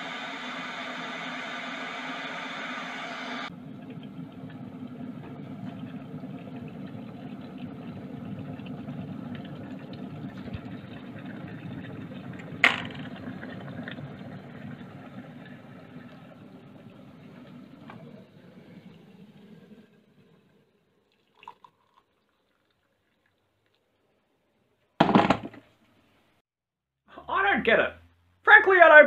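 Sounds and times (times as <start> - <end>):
electric kettle boiling water: 0.0 - 23.8.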